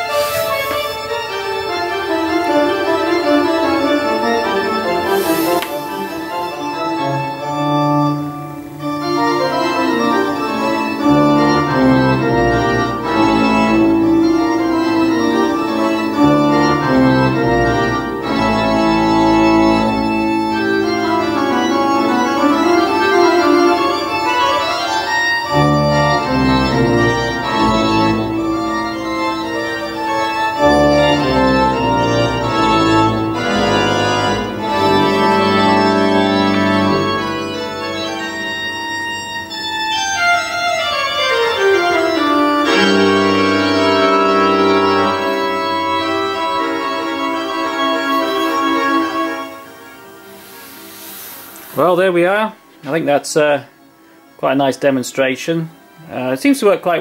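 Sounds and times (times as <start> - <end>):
organ music with long held chords: 0.0 - 57.0.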